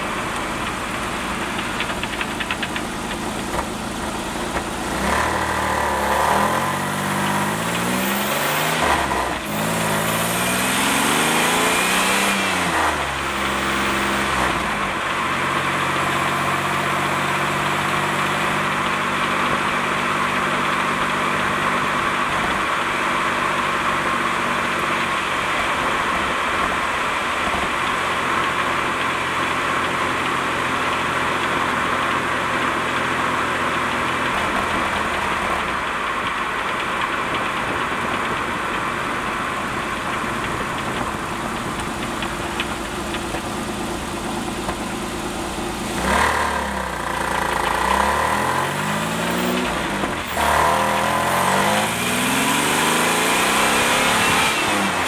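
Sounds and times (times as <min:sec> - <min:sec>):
transaxle rattle: 0:00.0 - 0:08.1, 0:12.7 - 0:53.8
car engine running: 0:00.0 - 0:55.0.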